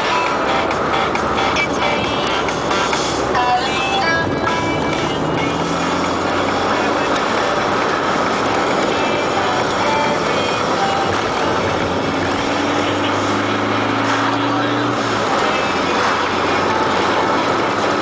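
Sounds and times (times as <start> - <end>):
low car engine hum: 0.0 - 18.0
tyre and road noise: 0.0 - 18.0.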